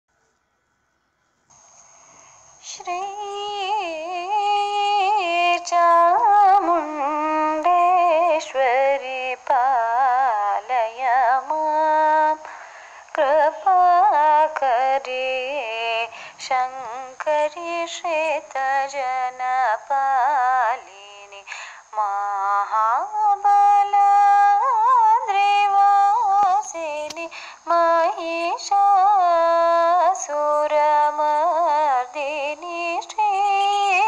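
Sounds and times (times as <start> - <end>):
woman singing devotional song: 2.3 - 34.0.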